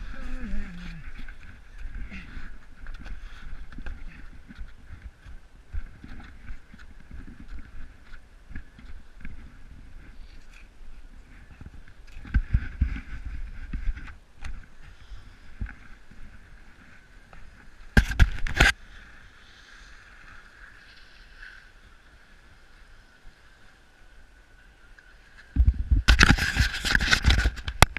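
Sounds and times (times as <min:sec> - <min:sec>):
sliding over snow: 0:00.0 - 0:24.0.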